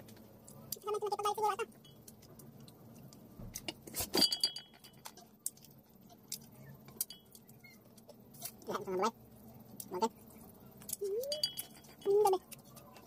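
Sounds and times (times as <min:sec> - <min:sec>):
chewing and crunching fried food: 0:00.0 - 0:13.0.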